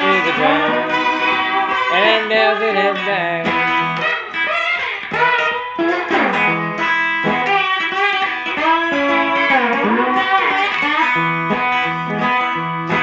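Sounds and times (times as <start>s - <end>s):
guitar with bending notes: 0.0s - 13.0s.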